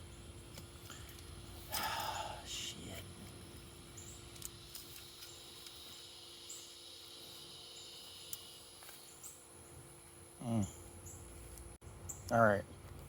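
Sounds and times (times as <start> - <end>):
high insect drone: 0.0 - 11.7.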